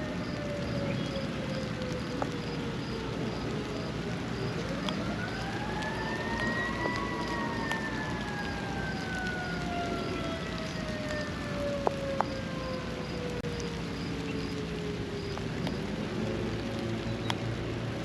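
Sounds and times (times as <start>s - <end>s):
siren wailing: 0.0s - 15.6s
rain hiss: 0.0s - 18.0s
water drip clicks: 0.2s - 18.0s.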